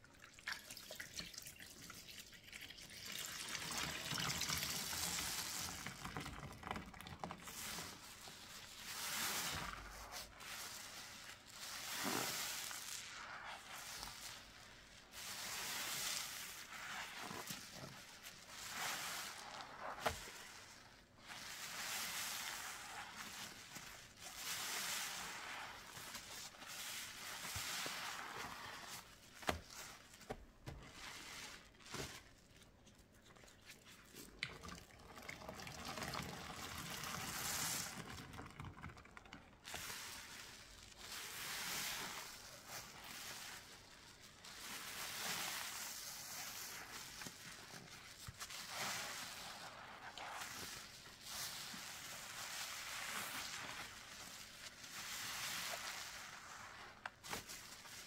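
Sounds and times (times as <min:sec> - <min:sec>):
soapy sponge squelching: 0:00.1 - 0:58.0.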